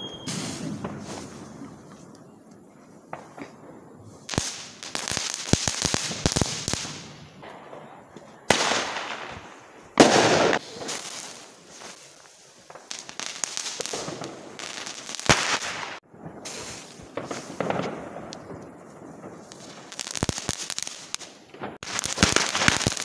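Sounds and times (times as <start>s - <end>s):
rocket firework rushing hiss: 0.0s - 1.8s, 4.2s - 7.3s, 8.5s - 23.0s
firework crackling pops: 0.0s - 2.4s, 3.1s - 23.0s.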